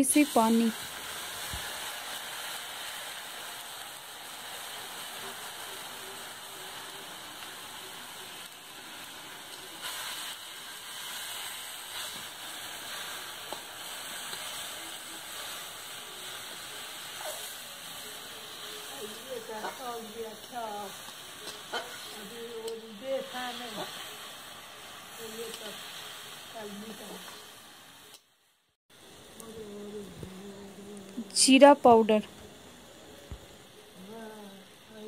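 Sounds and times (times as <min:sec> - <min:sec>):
leaves sizzling in a pan: 0:00.0 - 0:35.0.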